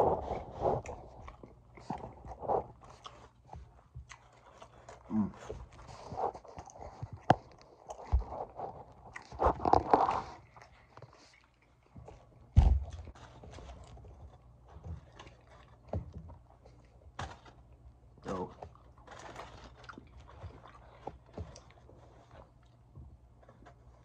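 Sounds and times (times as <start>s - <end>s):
chewing and biting food: 0.0s - 24.0s.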